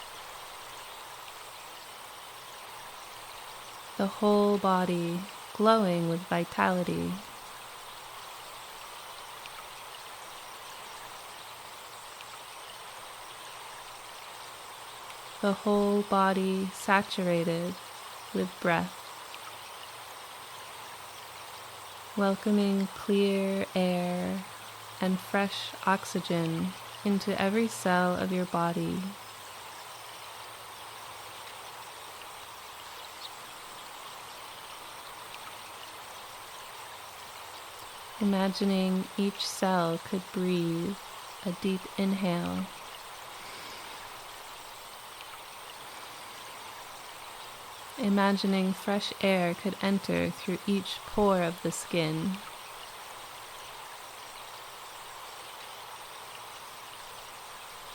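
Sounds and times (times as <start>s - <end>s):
forest stream running: 0.0s - 57.9s
insects buzzing: 0.0s - 57.9s.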